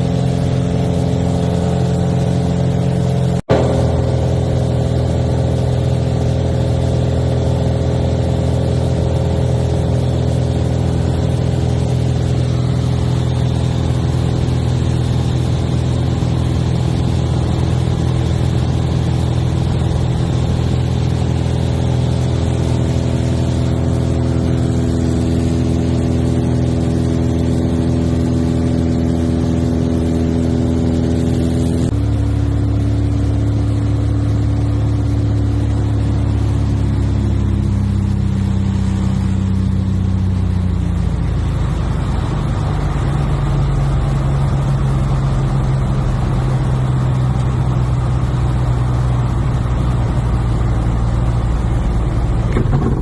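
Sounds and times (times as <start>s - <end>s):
propeller plane engine droning: 0.0s - 53.0s.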